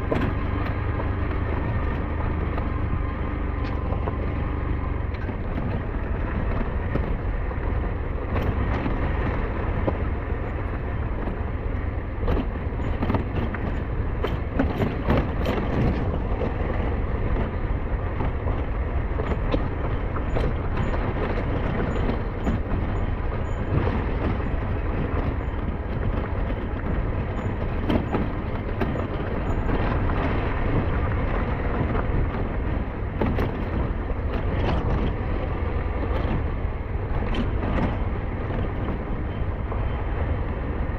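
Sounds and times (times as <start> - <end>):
rush of wind: 0.0 - 40.9.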